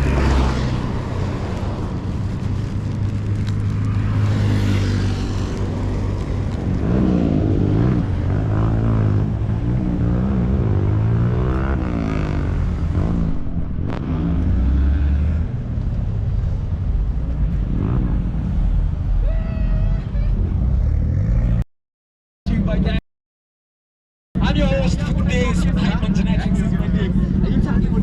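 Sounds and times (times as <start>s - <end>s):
vehicle engines revving: 0.0s - 21.6s, 24.4s - 28.0s.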